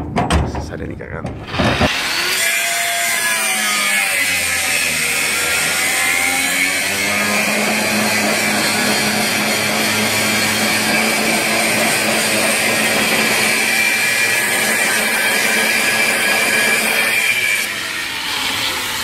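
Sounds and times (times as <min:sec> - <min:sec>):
electric saw cutting steel: 0:01.4 - 0:19.0.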